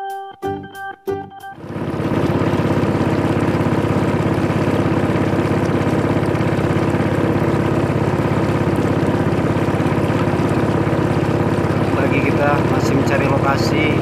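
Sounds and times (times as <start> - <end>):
boat motor running: 1.6 - 14.0.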